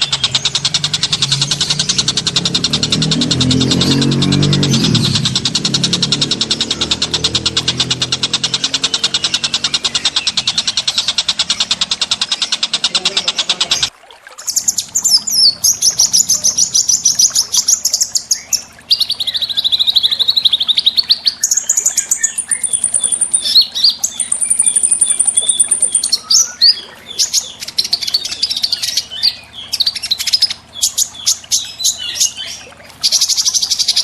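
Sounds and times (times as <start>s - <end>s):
bird buzzy trill: 0.0s - 13.9s, 14.5s - 34.0s
bird high rapid trills and whistles: 0.0s - 34.0s.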